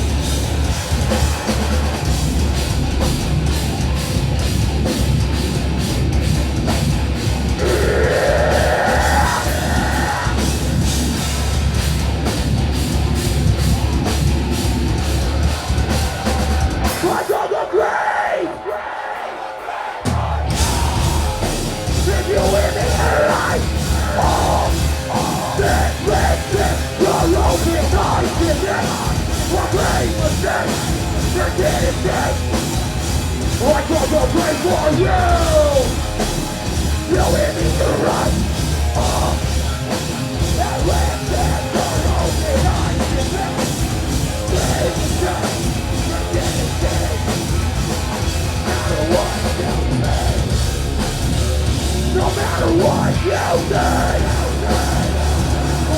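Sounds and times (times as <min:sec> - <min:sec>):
heavy metal band playing: 0:00.0 - 0:55.9.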